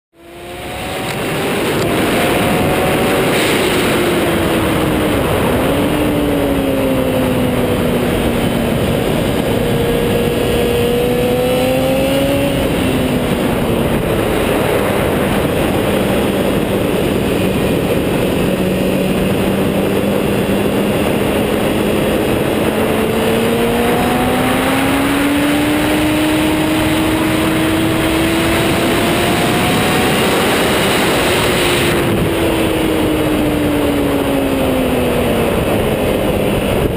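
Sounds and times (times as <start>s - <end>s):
motorcycle engine: 0.1s - 36.9s
wind rush over microphone: 0.2s - 36.9s.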